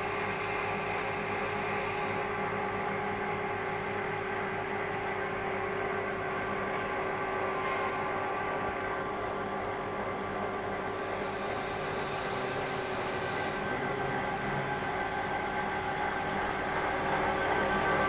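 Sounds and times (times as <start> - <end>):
machine humming and whining: 0.0 - 18.0.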